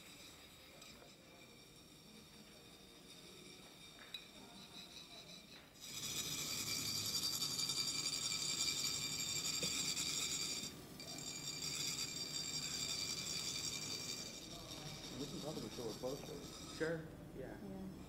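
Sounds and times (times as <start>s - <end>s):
metal sand funnels rasped buzzing: 0.0s - 17.1s.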